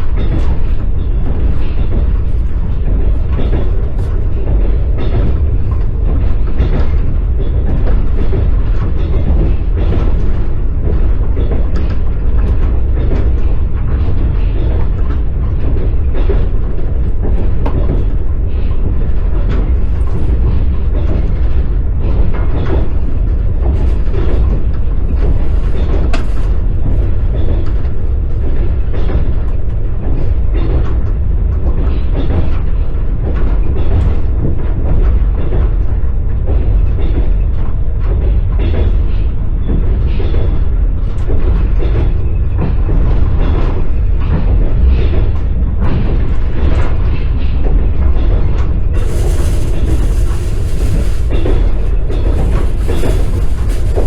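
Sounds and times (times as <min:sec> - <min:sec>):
train carriage rumbling: 0:00.0 - 0:54.0
wheels clacking on rails: 0:00.0 - 0:54.0.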